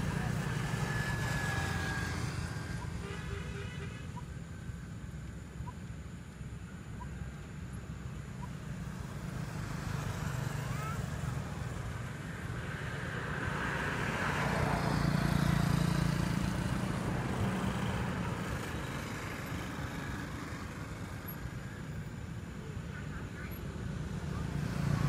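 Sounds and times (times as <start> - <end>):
cars passing: 0.0 - 4.7, 7.0 - 25.0
motorbikes passing: 0.0 - 4.7, 7.2 - 25.0.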